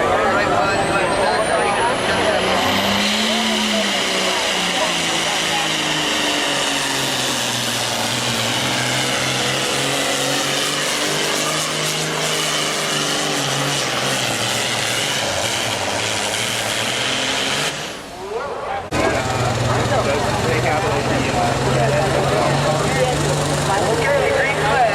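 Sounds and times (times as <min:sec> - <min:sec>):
tractor diesel engine revving hard: 0:00.0 - 0:24.9.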